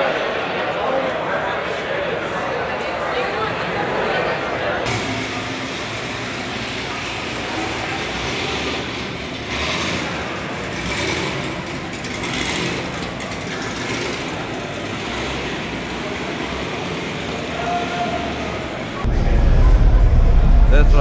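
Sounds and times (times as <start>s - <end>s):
car engines rumbling in garage: 0.1s - 21.0s.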